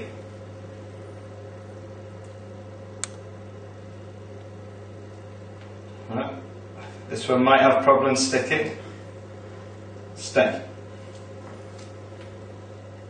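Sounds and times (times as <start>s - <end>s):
appliance low hum: 0.0s - 13.0s.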